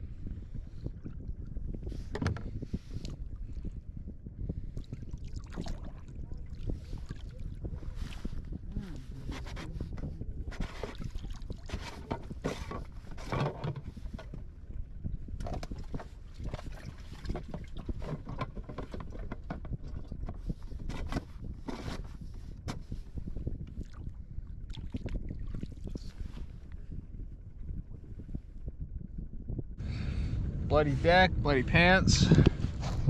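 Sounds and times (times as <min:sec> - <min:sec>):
knocks and rustles in a kayak: 0:00.0 - 0:03.7, 0:04.5 - 0:28.4
water lapping against a hull: 0:00.0 - 0:28.8
wind rumbling on microphone: 0:00.0 - 0:33.0.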